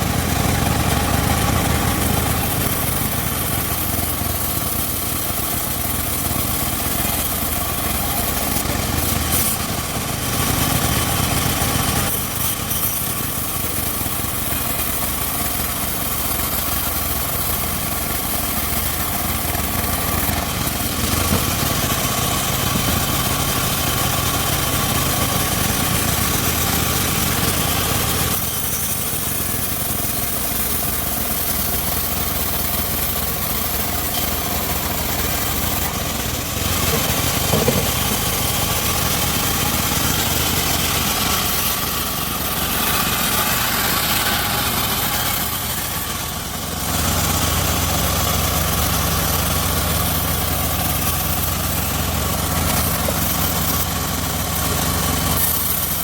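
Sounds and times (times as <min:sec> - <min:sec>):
circular sawmill drone: 0:00.0 - 0:56.0.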